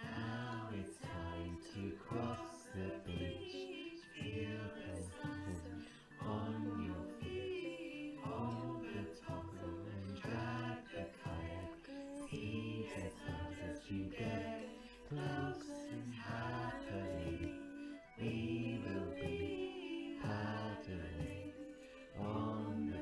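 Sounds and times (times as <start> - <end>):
choir singing a shanty: 0.0 - 23.0.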